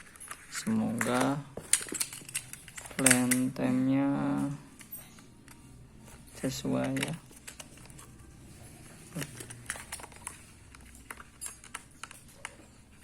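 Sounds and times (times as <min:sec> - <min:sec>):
hands handling packaging: 0:00.0 - 0:03.5, 0:05.5 - 0:13.0.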